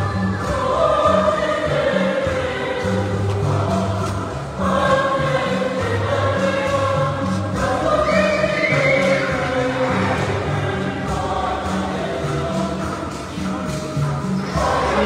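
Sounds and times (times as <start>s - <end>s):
choir singing gospel music: 0.0s - 15.0s.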